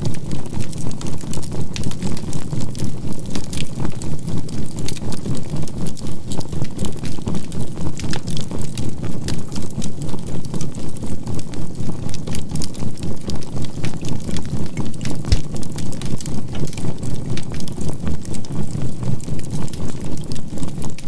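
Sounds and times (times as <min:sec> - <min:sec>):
charcoal fire crackling: 0:00.0 - 0:21.0.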